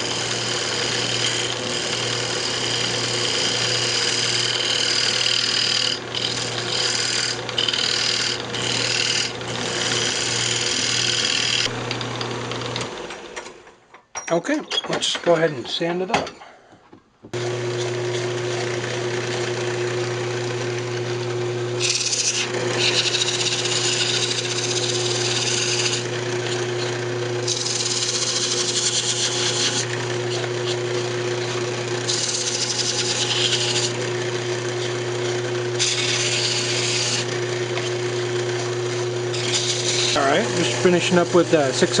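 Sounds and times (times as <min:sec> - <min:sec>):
wood lathe humming: 0:00.0 - 0:13.6, 0:17.3 - 0:42.0.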